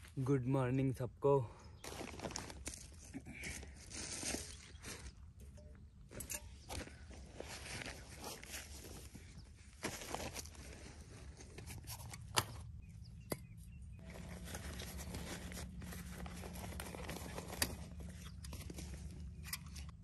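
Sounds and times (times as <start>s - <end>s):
rustling of camping gear: 1.6s - 20.0s.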